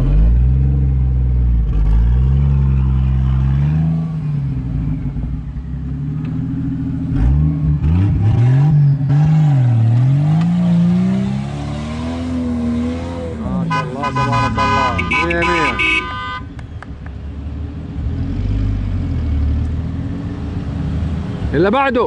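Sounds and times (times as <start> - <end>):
off-road vehicle engine revving: 0.0 - 16.4, 17.5 - 21.8.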